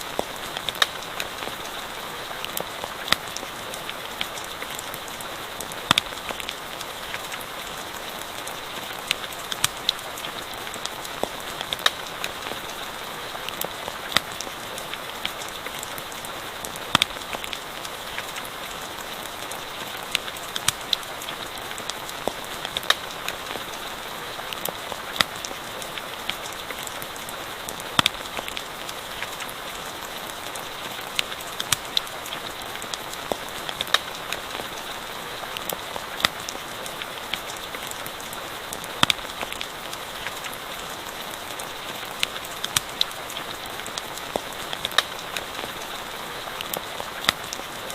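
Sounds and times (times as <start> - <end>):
campfire crackling and popping: 0.0 - 47.9
steady rain: 0.0 - 47.9.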